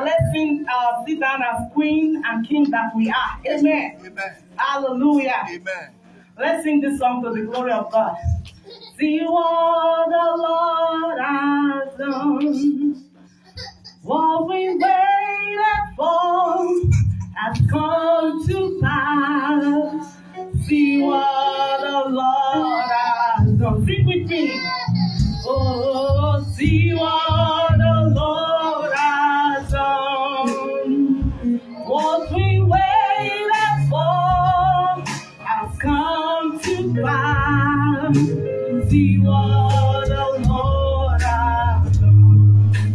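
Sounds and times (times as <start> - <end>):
woman singing into a microphone: 0.0 - 3.9, 6.4 - 13.2, 14.0 - 42.9.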